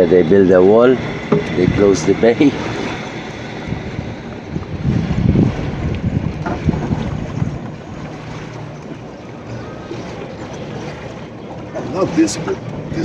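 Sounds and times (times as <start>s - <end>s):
water noise: 0.0s - 13.0s
wind rumbling on microphone: 0.0s - 13.0s.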